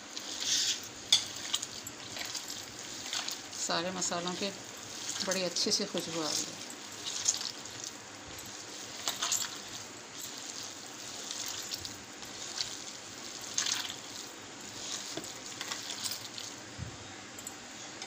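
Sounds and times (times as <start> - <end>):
hand squelching minced meat: 0.0 - 16.8.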